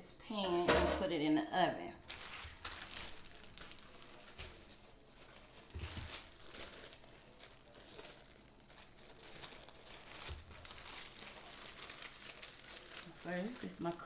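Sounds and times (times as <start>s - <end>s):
plastic packaging crinkling: 2.0s - 14.0s.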